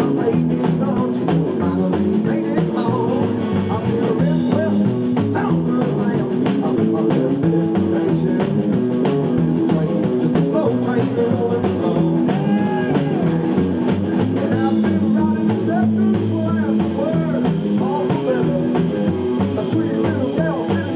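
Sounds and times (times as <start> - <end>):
live band playing: 0.0 - 20.9.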